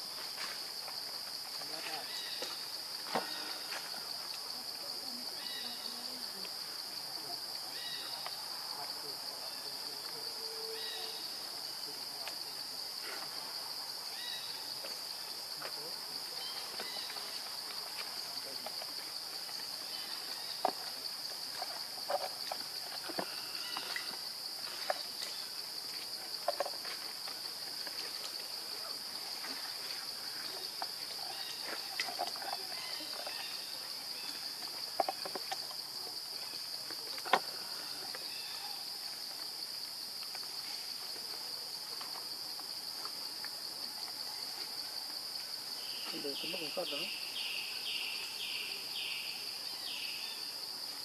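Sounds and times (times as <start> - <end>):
insect chorus buzzing: 0.0 - 51.0.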